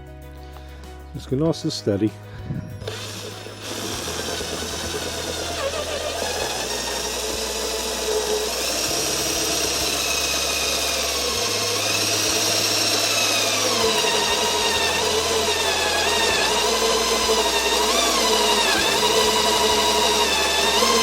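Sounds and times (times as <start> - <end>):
electric drill whining: 2.8 - 21.0.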